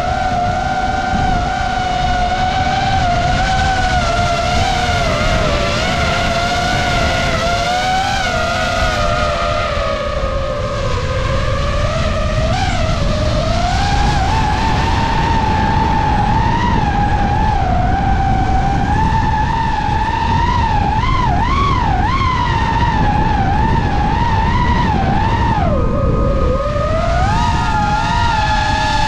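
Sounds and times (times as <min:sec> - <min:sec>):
drone propellers whining: 0:00.0 - 0:29.0
wind rushing: 0:00.0 - 0:29.0.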